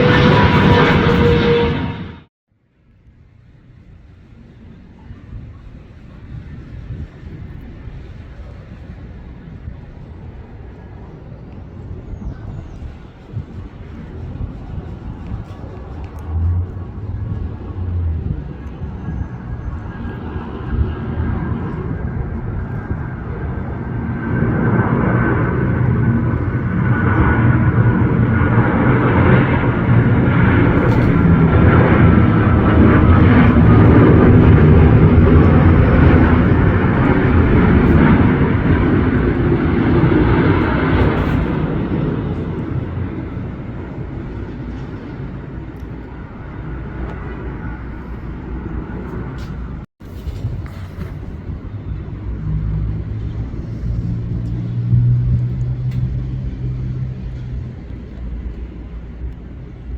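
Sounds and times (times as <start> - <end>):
jet engines passing by: 0.0 - 59.9.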